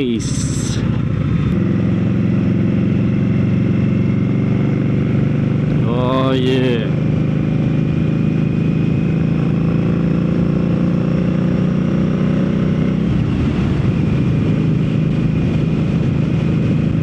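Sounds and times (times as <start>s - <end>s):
motorcycle engine while riding: 0.0s - 17.0s.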